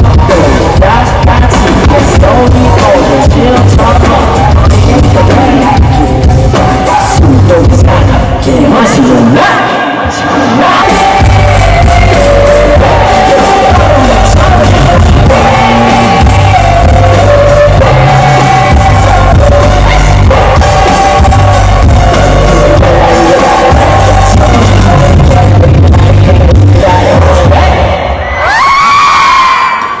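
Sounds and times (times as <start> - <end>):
heavy repeating bass beat: 0.0 - 9.4, 10.6 - 28.0
man singing and rapping: 0.0 - 28.2.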